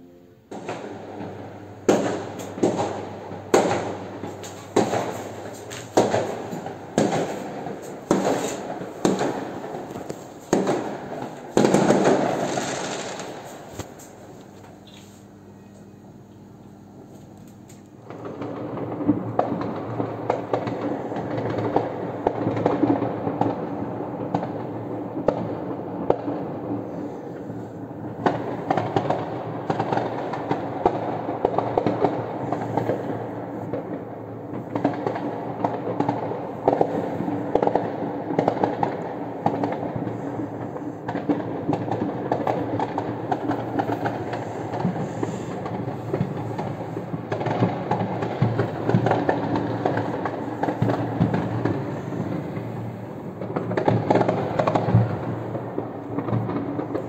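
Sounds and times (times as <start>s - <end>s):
fireworks crackling and banging: 0.5s - 15.3s, 17.5s - 57.0s.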